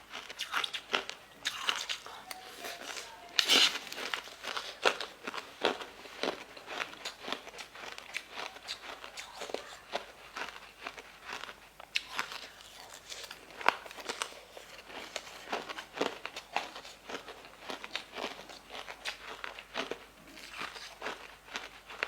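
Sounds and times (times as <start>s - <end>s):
crunchy bites and chewing: 0.0s - 22.0s.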